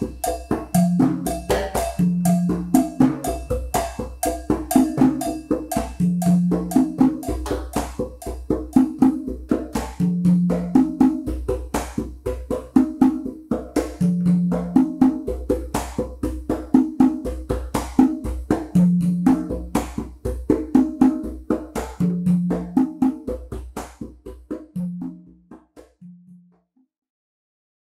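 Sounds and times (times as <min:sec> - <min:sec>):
fast clicking wood block rhythm: 0:00.0 - 0:26.0
conga drums: 0:00.0 - 0:26.6.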